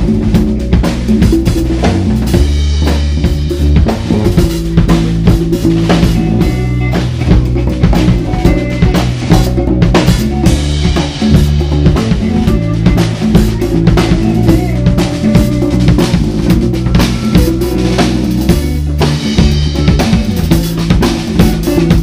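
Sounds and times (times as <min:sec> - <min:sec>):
drum kit: 0:00.0 - 0:22.0
electric bass: 0:00.0 - 0:22.0
electric guitar: 0:00.0 - 0:22.0.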